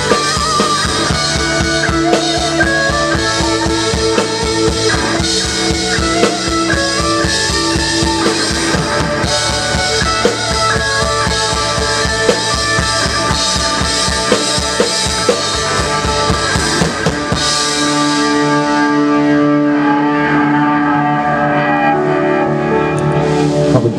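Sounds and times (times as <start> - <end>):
rock drum beat: 0.0 - 20.0
live band playing: 0.0 - 23.9.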